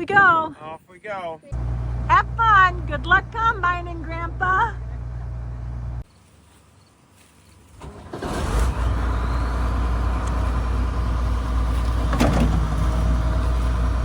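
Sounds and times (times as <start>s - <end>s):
engine low rumble: 1.6s - 14.0s.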